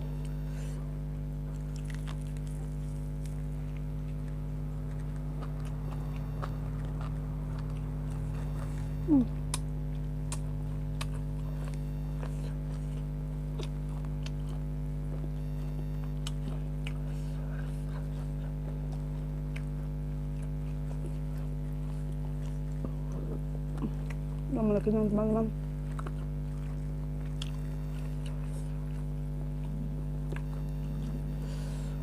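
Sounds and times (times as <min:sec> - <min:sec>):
person chewing food: 0:00.0 - 0:24.9, 0:25.5 - 0:32.0
steady electrical hum: 0:00.0 - 0:32.0.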